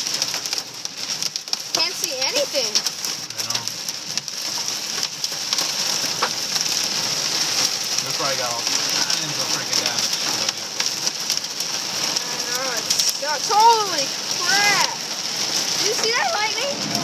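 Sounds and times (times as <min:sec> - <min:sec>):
hail pattering: 0:00.0 - 0:17.0.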